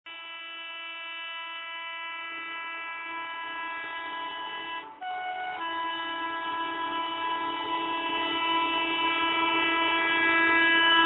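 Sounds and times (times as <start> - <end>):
locomotive horn blast: 0.1 - 11.0.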